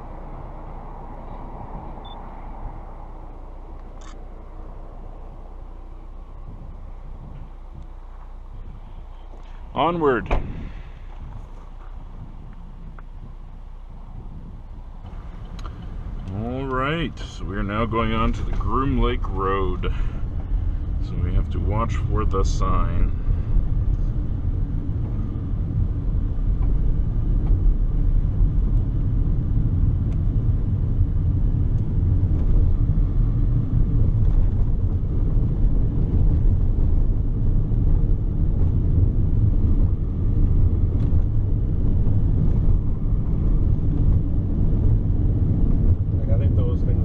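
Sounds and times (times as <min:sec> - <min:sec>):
car road and engine rumble: 0:00.0 - 0:47.0.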